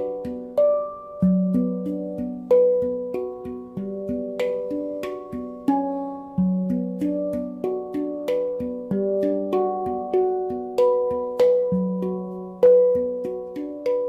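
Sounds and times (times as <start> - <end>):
plucked note melody: 0.0 - 14.0.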